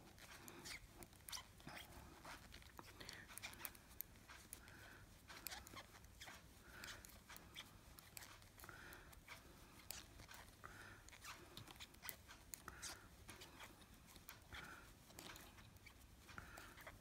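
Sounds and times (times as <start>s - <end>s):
knitting needles clicking: 0.2s - 17.0s.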